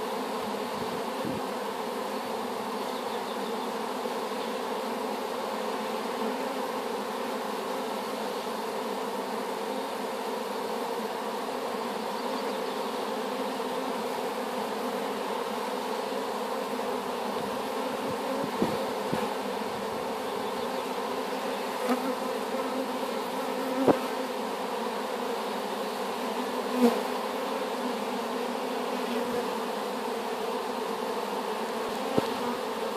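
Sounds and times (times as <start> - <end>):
honeybees buzzing: 0.0 - 32.9.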